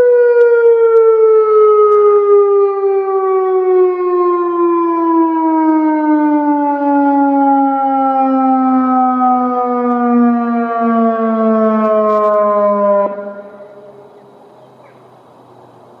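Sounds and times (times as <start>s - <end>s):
electronic siren winding down: 0.0s - 14.2s
faint outdoor background: 0.0s - 16.0s.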